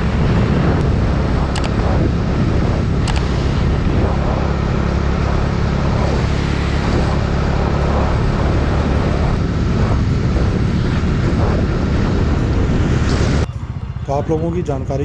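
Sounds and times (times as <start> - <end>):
wind rush on microphone: 0.0 - 14.0
motorcycle engine running: 0.0 - 15.0.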